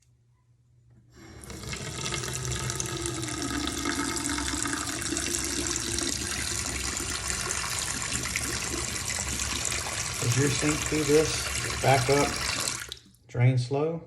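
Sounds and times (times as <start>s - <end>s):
faucet running into sink: 1.2s - 13.1s.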